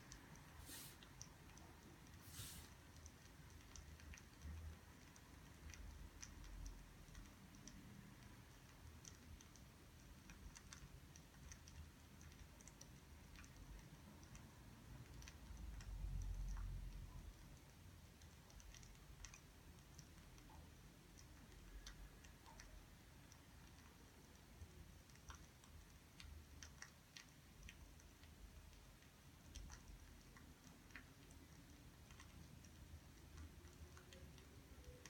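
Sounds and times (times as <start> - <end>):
faint small clicks and ticks: 0.0 - 35.0.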